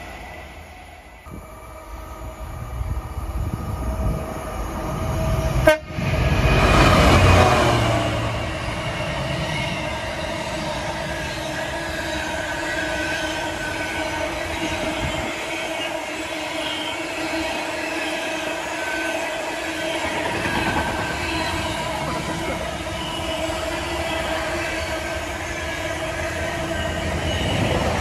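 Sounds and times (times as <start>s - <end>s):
diesel locomotive passing: 0.0s - 28.0s.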